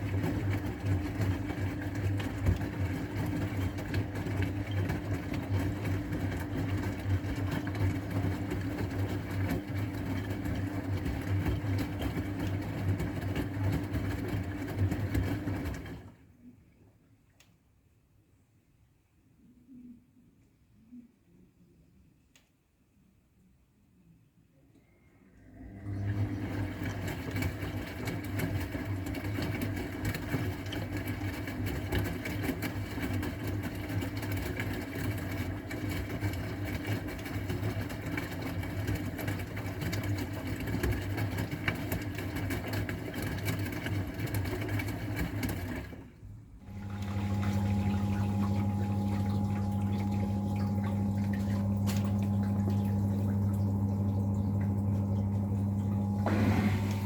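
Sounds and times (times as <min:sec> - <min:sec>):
water sloshing and churning: 0:00.0 - 0:16.2, 0:25.9 - 0:57.0
drain pump with water running: 0:00.0 - 0:16.5, 0:25.2 - 0:57.0
washing machine motor hum: 0:00.0 - 0:16.5, 0:25.2 - 0:57.0.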